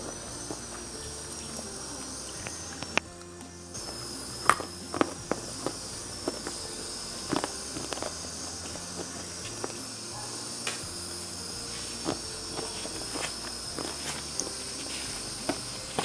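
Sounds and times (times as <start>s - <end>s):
crunchy chewing: 0.0s - 16.0s
high-pitched hiss: 0.0s - 16.0s.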